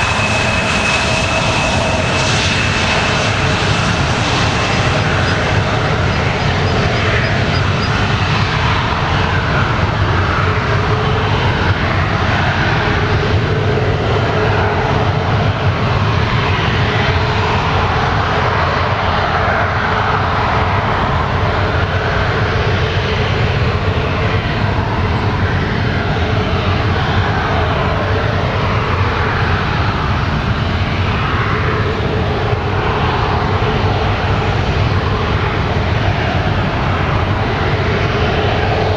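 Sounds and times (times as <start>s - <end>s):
faint jet whine: 0.0s - 38.9s
jet engine rumble: 0.0s - 38.9s.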